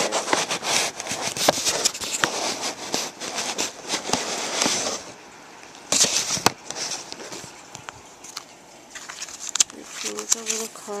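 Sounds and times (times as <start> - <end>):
paper crinkling: 0.0 - 5.2, 5.9 - 11.0.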